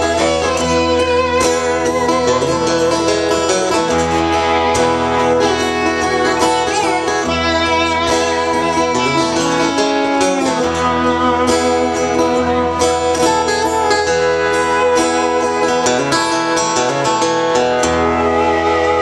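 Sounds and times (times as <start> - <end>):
acoustic guitar: 0.0 - 19.0
lap steel guitar sliding: 0.0 - 19.0.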